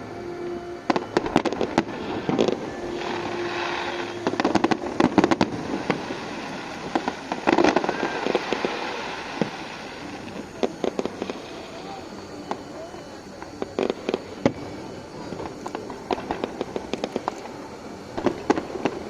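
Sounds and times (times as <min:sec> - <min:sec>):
fireworks crackling: 0:00.0 - 0:19.0
fireworks banging: 0:00.4 - 0:19.0.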